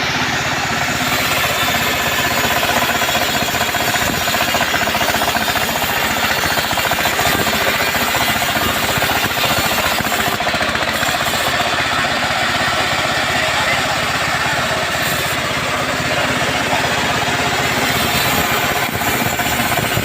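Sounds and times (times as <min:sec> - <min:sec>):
chainsaw cutting wood: 0:00.8 - 0:20.0.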